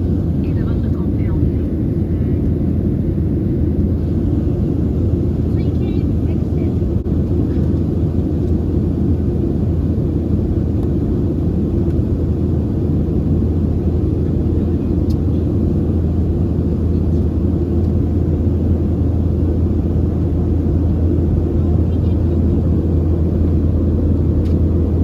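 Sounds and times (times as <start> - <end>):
jet engines low rumble: 0.0 - 25.0.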